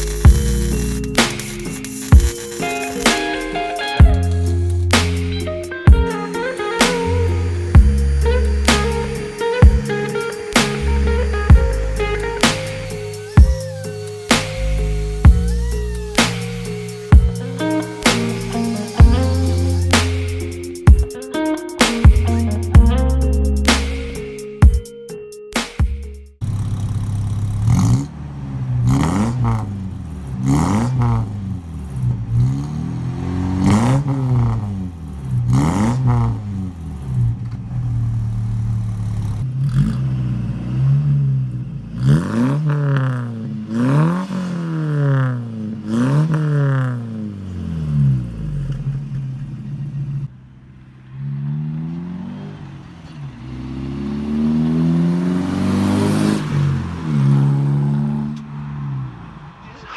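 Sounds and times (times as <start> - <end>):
truck engine revving: 0.0 - 24.4, 26.4 - 59.9.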